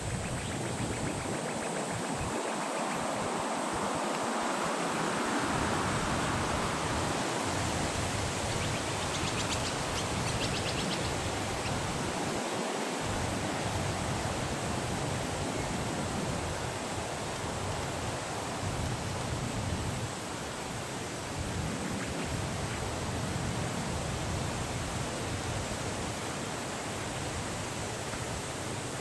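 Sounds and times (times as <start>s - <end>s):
steady rushing hiss: 0.0s - 29.0s.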